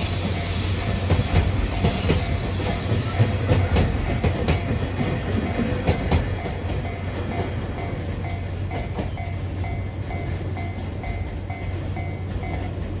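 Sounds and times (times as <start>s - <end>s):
crossing warning bell dinging: 0.0s - 13.0s
wheels clacking over rail joints: 0.3s - 12.6s.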